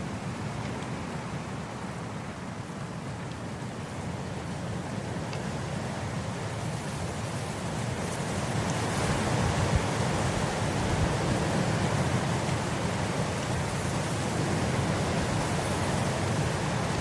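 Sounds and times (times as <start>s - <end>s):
wind blowing across grass: 0.0s - 17.0s.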